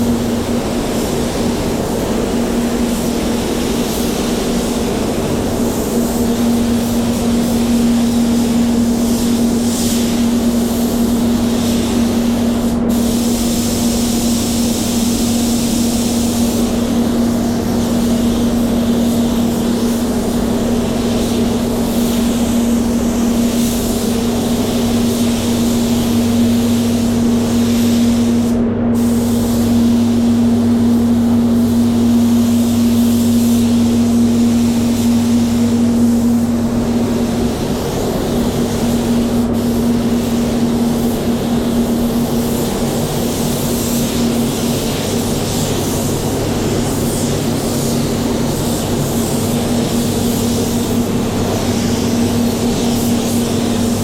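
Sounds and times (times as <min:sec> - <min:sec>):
low machinery hum: 0:00.0 - 0:54.0
spray gun hissing: 0:00.0 - 0:54.0.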